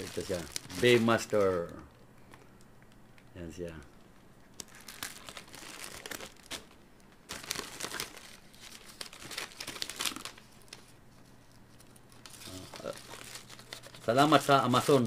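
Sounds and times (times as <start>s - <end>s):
packaging crinkling: 0.0s - 3.0s, 4.0s - 10.9s, 11.6s - 15.0s.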